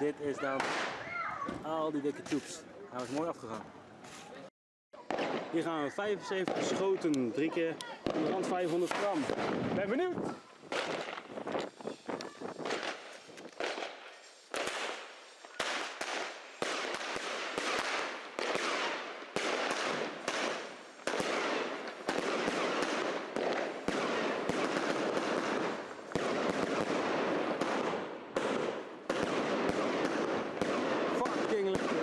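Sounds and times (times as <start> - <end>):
firework sharp bangs: 0.5 - 1.0, 5.0 - 5.7, 6.3 - 32.0
firework crackle: 5.1 - 32.0.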